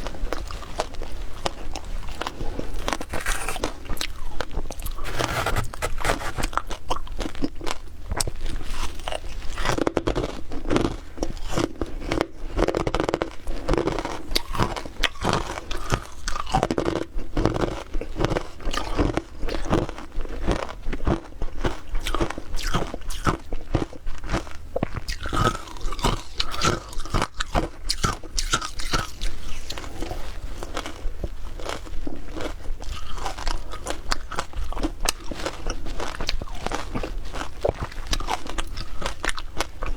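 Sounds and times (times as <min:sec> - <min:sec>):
crunching shaved ice: 0:00.4 - 0:21.3, 0:25.0 - 0:39.9.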